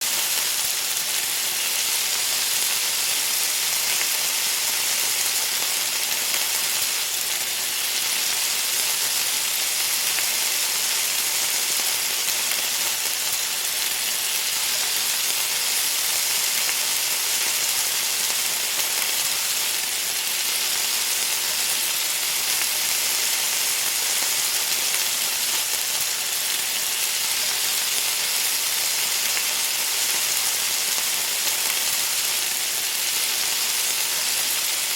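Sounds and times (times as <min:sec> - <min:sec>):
food sizzling on a pan: 0:00.0 - 0:34.9.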